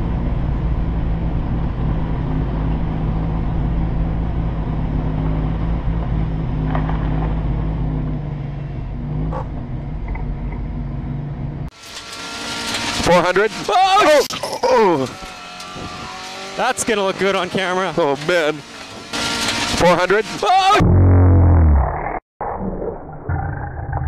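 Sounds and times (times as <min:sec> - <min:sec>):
road noise: 0:00.0 - 0:20.8
car engine drone: 0:00.0 - 0:22.2.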